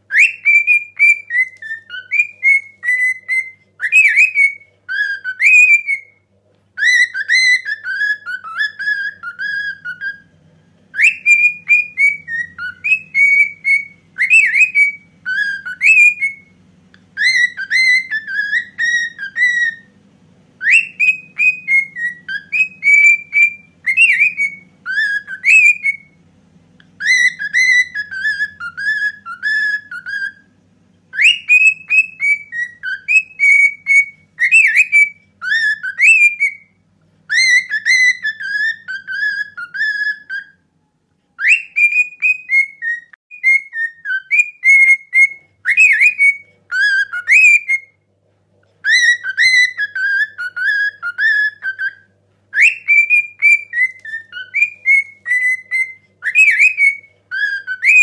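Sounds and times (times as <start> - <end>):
cockatiel whistling a march melody: 0.1 - 48.1, 48.8 - 58.0.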